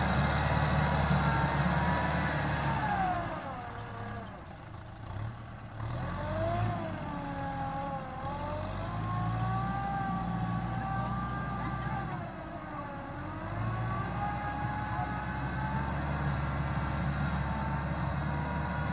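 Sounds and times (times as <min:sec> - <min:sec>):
tractor engine: 0:00.0 - 0:18.9.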